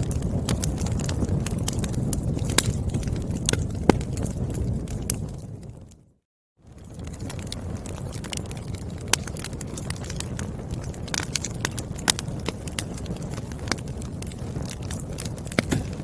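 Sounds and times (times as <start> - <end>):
firewood crackling and popping: 0.0 - 16.0
low rumble of flame: 0.0 - 16.0.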